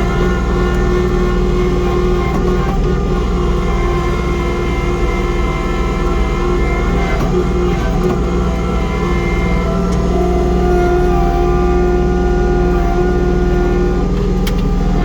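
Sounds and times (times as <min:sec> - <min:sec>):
snowblower whine: 0:00.0 - 0:15.0
tractor diesel engine running: 0:00.0 - 0:15.0.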